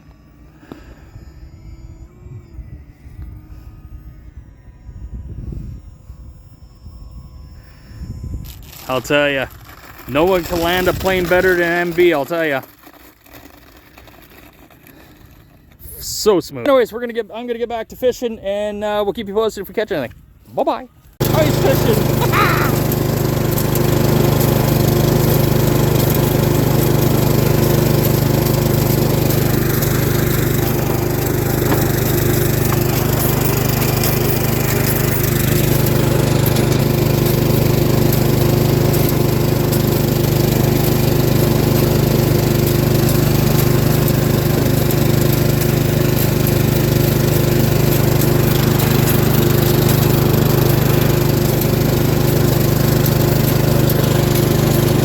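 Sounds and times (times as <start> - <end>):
riding lawn mower engine: 0.0 - 4.3, 7.7 - 16.9, 21.0 - 55.0.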